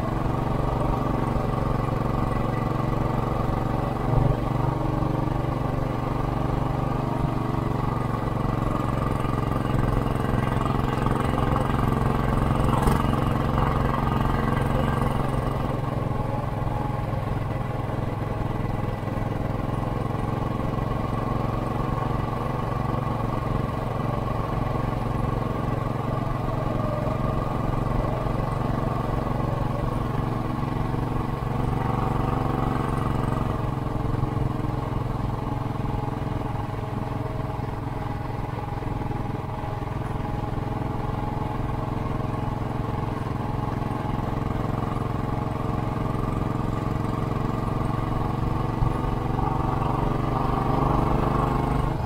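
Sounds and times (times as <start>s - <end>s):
motorcycle engine cruising: 0.0s - 52.0s.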